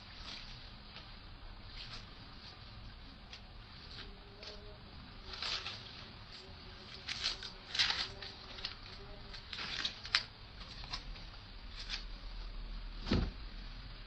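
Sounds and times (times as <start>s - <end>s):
rustling and scraping handling noises: 0.0s - 13.6s.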